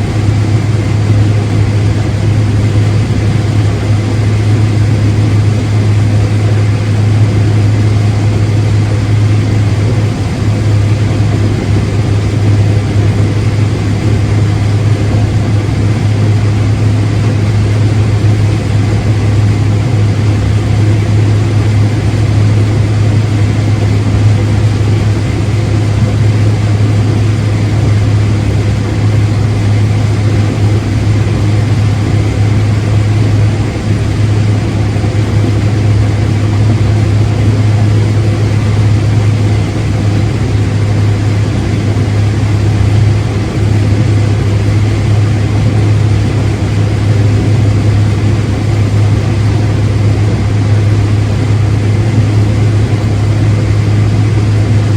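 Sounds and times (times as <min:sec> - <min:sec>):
farm machine engine running: 0:00.0 - 0:54.9.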